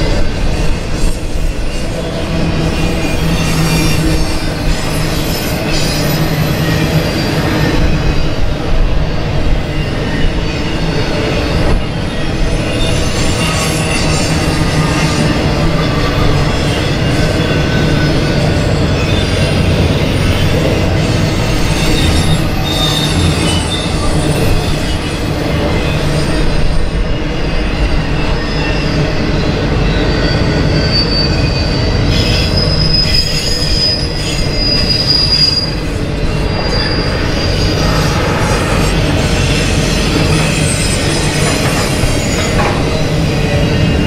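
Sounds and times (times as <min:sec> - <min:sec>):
freight train wheels rumbling: 0:00.0 - 0:44.0
high wheel squeals: 0:00.1 - 0:08.6, 0:09.6 - 0:44.0.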